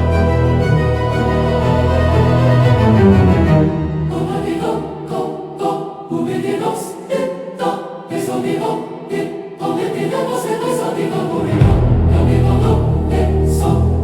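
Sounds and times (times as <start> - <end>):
choir singing with music: 0.0 - 14.0.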